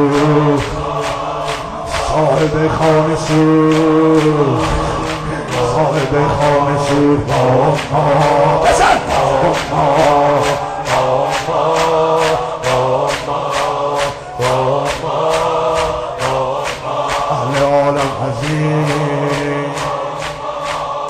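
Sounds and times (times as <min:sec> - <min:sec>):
men chanting in unison: 0:00.0 - 0:21.0
rhythmic chest-beating claps: 0:00.0 - 0:21.0.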